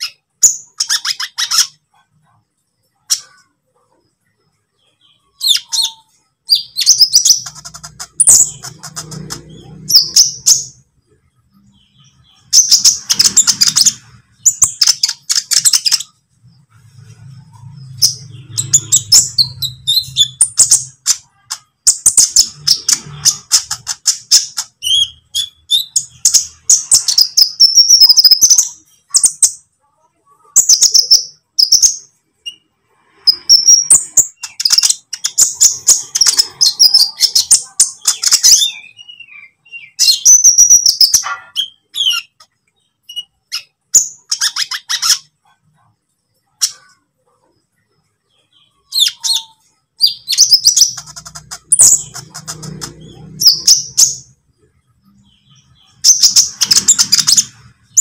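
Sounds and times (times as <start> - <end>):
bird chirping and trilling: 0.0 - 58.0.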